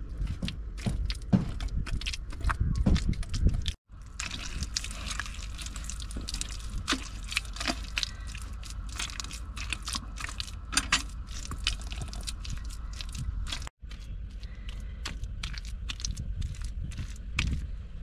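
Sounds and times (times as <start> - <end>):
low rumble: 0.0 - 18.0
wet clay squelching: 0.4 - 17.8.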